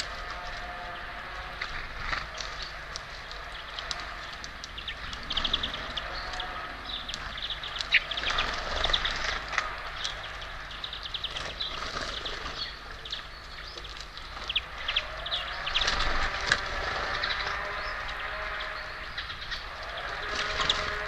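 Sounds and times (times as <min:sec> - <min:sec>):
songbirds chirping and twittering: 0:00.0 - 0:21.0.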